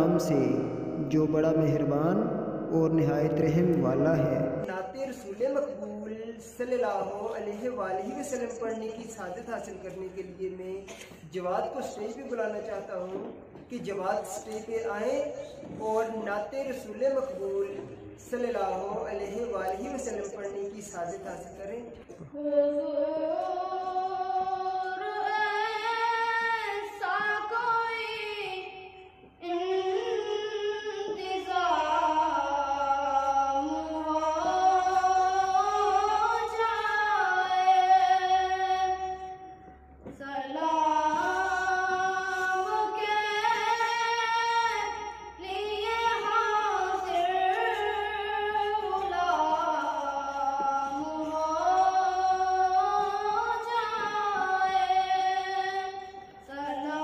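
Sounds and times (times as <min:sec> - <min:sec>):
boy singing unaccompanied: 0:02.9 - 0:57.0.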